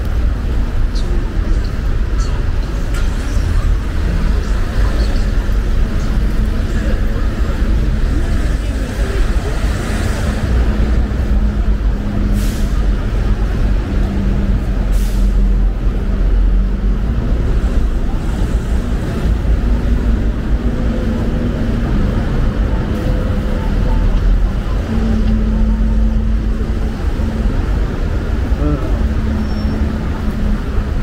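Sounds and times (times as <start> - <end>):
traffic engines rumbling: 0.0 - 31.0.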